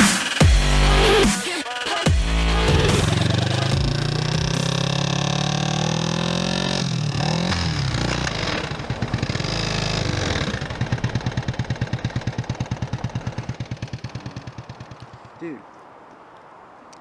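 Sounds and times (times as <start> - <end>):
motorcycle engine revving and idling: 0.0 - 15.6.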